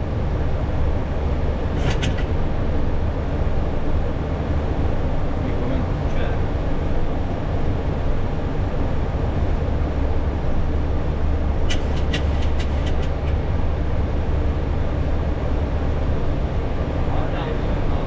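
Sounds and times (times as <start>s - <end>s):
low rumble of jet engines: 0.0s - 18.0s.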